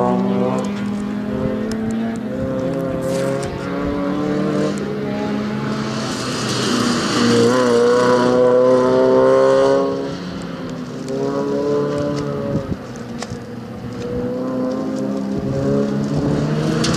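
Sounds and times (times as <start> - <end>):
car engine at high revs: 0.0 - 16.9.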